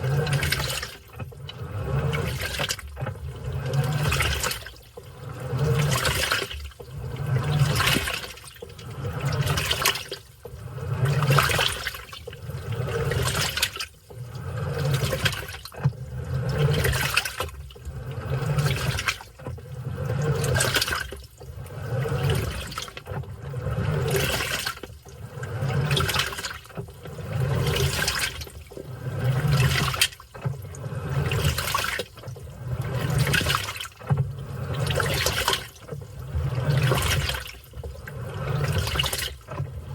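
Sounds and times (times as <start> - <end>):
washing machine drive hum: 0.0 - 39.9
washing machine sloshing: 0.0 - 39.9.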